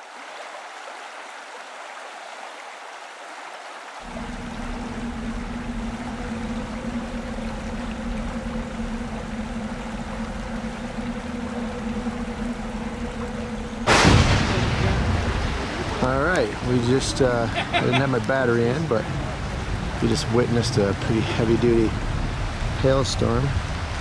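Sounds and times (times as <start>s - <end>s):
river water rushing: 0.0s - 24.0s
steady low hum: 4.0s - 24.0s.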